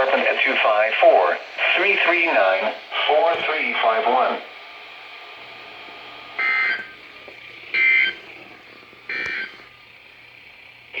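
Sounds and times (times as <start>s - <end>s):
faint radio hiss and hum: 0.0s - 11.0s.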